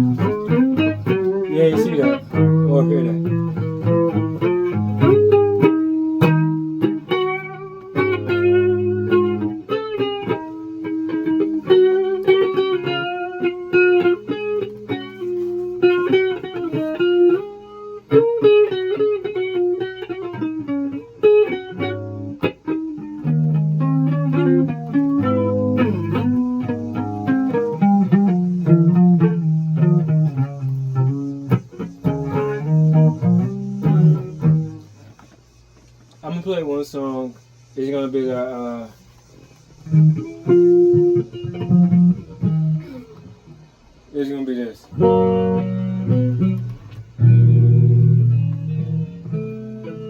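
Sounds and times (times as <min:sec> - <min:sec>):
electric guitar playing: 0:00.0 - 0:36.2, 0:38.3 - 0:50.0.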